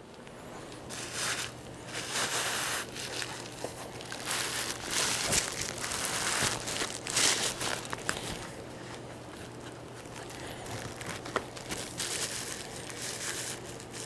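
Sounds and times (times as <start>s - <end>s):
plastic wrap crinkling: 0.8s - 14.0s.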